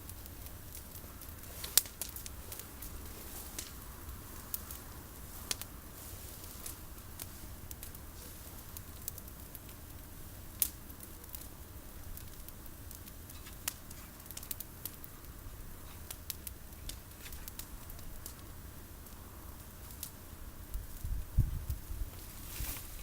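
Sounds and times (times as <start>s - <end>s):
campfire crackling and snapping: 0.0s - 23.0s.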